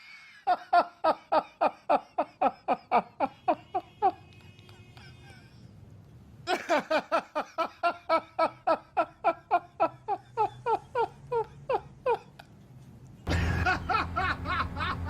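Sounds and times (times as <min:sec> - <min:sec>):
person laughing: 0:00.0 - 0:05.7, 0:06.5 - 0:12.6, 0:13.3 - 0:15.0.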